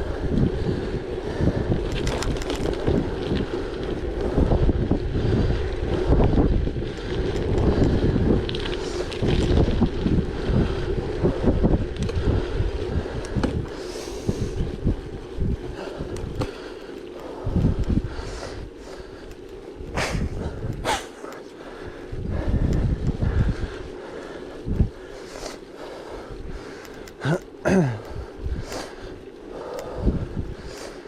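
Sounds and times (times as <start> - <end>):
bike clicks and rattles: 0.0 - 31.0
wind buffeting microphone: 0.0 - 31.0.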